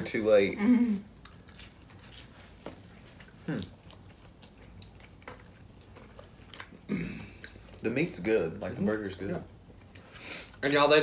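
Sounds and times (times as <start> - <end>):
people chewing food: 0.1 - 10.9.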